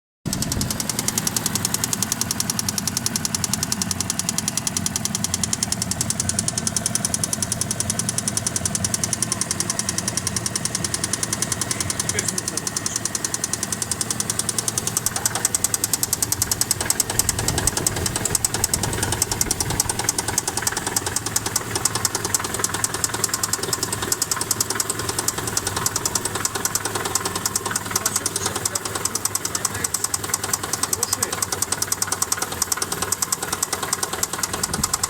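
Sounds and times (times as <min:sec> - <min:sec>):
engine ticking knock: 0:00.2 - 0:35.0
engine running hum: 0:00.3 - 0:35.0.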